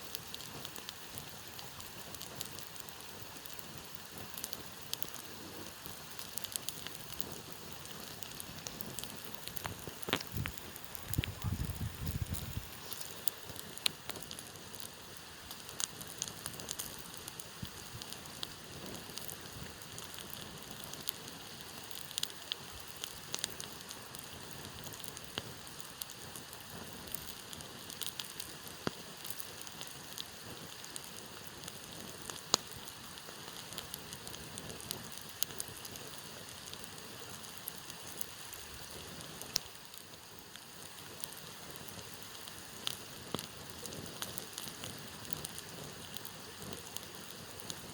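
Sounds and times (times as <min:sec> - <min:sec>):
campfire hissing and crackling: 0:00.0 - 0:47.9
fire popping: 0:00.0 - 0:47.9.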